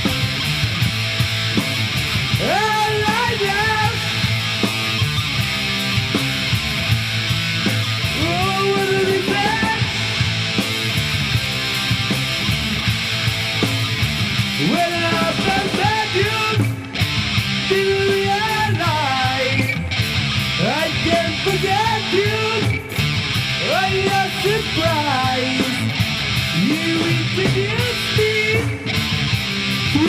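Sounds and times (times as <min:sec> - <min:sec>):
heavy metal band playing live: 0:00.0 - 0:30.0
sliding lead guitar notes: 0:00.0 - 0:30.0.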